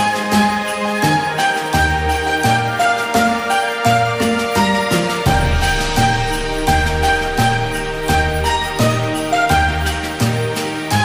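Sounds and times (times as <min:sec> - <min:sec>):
instrumental music with bass line: 0:00.0 - 0:11.0.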